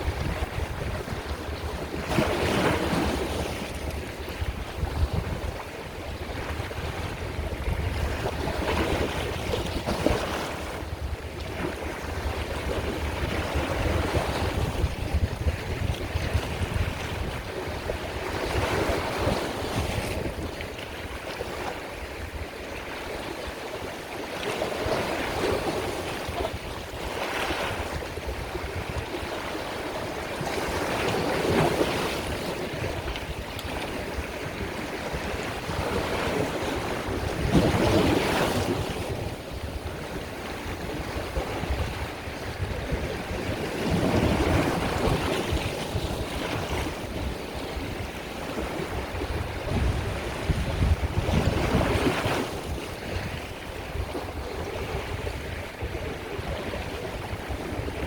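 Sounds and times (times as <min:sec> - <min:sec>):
sea waves breaking on shore: 0:00.0 - 0:58.0
wind rumble on microphone: 0:00.0 - 0:58.0.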